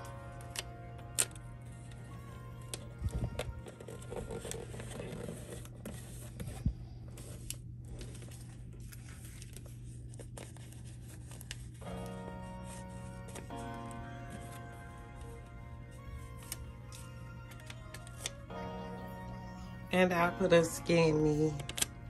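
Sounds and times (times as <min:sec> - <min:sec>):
quiet background music: 0:00.0 - 0:22.0.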